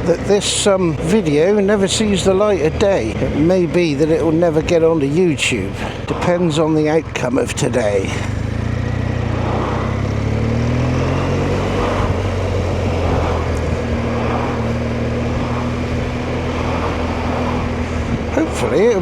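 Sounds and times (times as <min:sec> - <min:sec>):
motorcycle engine running: 0:00.0 - 0:19.0
wind and road rush: 0:00.0 - 0:19.0.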